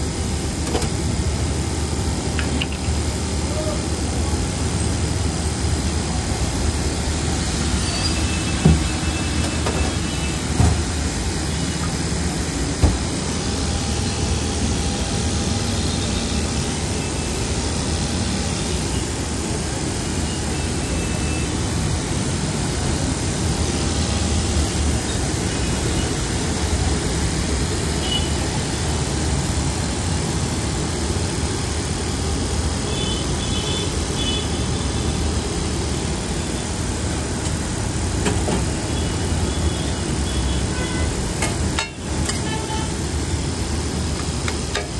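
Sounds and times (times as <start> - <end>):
traffic rumble and hiss: 0.0 - 44.9.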